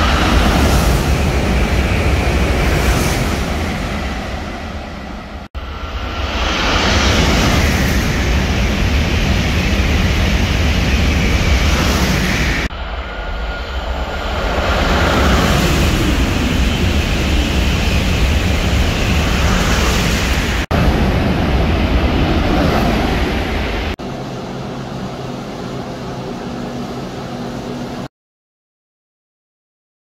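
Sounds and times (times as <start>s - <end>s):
high-speed trains passing: 0.0s - 28.1s.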